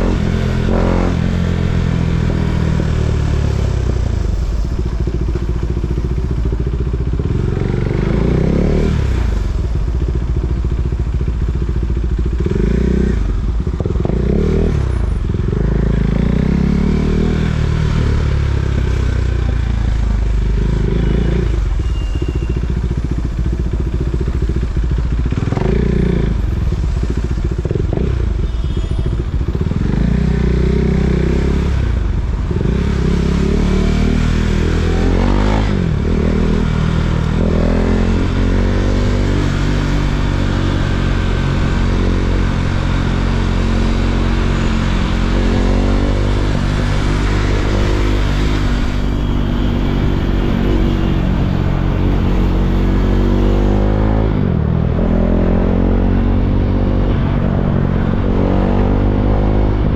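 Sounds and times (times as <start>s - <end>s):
motorcycle engine revving: 0.0s - 21.9s, 22.5s - 59.9s.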